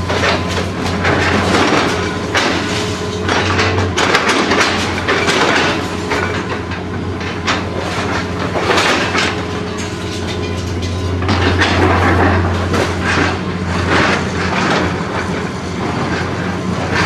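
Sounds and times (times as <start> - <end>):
debris crunching and clattering: 0.0 - 17.0
diesel engine running: 0.0 - 17.0.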